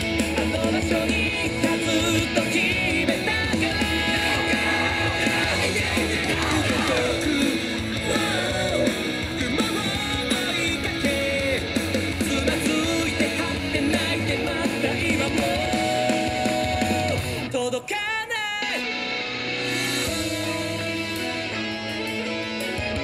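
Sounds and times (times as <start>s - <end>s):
loud rock song with vocals: 0.0s - 23.0s.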